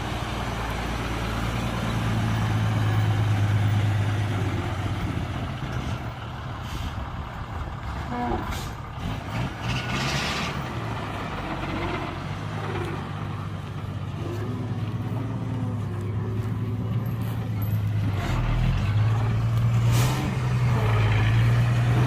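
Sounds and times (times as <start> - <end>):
heavy machinery diesel engine running: 0.0 - 22.0.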